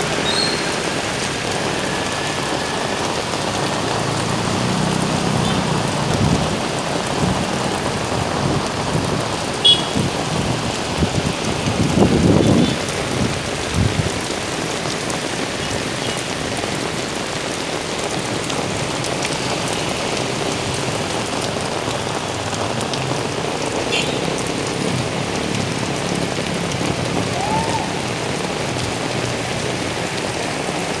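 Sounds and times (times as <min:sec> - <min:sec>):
heavy rain on asphalt: 0:00.0 - 0:31.0.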